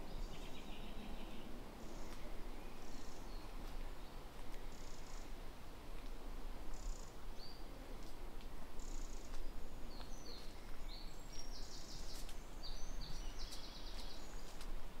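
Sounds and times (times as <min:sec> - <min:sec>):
songbirds chirping and trilling: 0:00.0 - 0:05.6, 0:06.7 - 0:08.0, 0:08.7 - 0:14.8.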